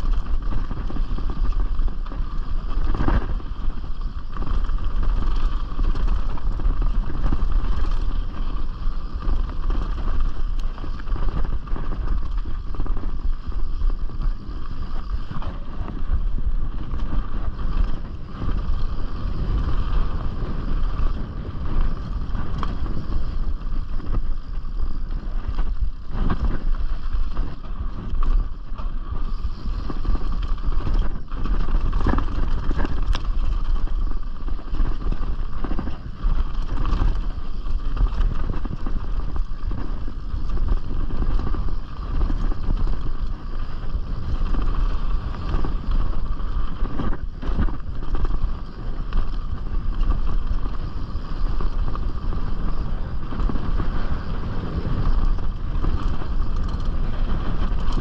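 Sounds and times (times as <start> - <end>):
bike rattling: 0.0 - 58.0
bike tyres rolling on dirt: 0.0 - 58.0
wind buffeting microphone: 0.0 - 58.0.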